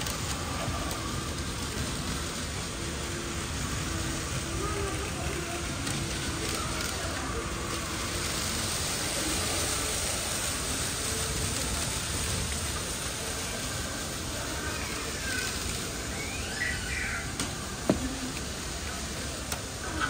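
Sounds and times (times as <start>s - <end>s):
even hiss: 0.0s - 20.0s
faint distant voices: 0.0s - 20.0s.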